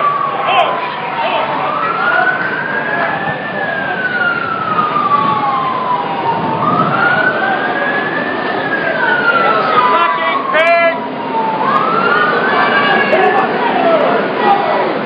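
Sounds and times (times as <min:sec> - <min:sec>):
emergency vehicle siren wailing: 0:00.0 - 0:15.0
steady background noise: 0:00.0 - 0:15.0.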